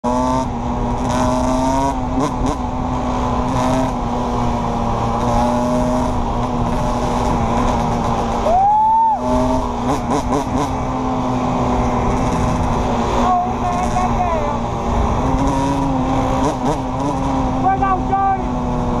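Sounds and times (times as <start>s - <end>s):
quad engine revving: 0.0s - 19.0s
second engine droning: 0.0s - 19.0s.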